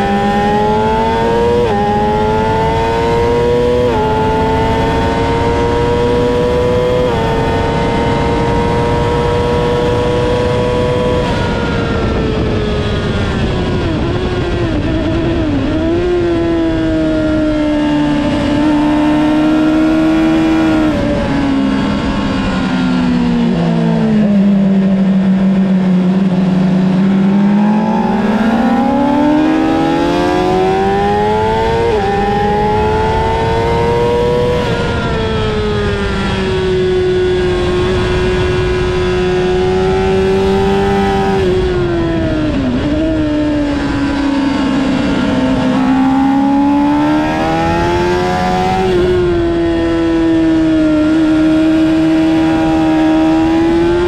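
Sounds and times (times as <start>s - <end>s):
heavy wind rush: 0.0s - 54.0s
motorcycle engine at high revs: 0.0s - 54.0s.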